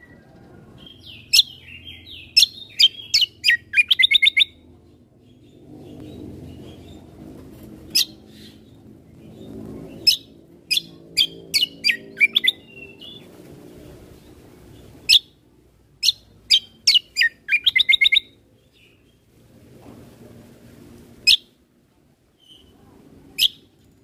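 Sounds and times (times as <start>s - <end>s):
songbird chirping: 0.0s - 15.4s, 16.0s - 19.3s, 22.3s - 24.0s
faint low hum: 0.0s - 24.0s.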